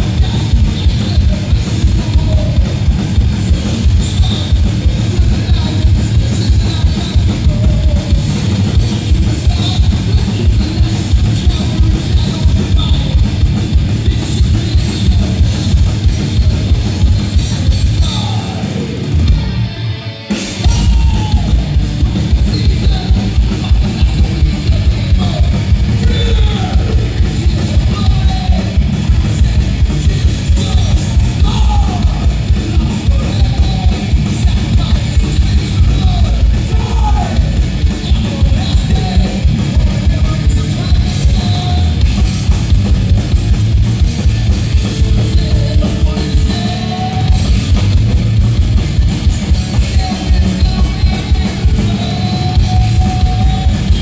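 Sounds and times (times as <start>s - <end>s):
metal band playing live: 0.0s - 54.0s.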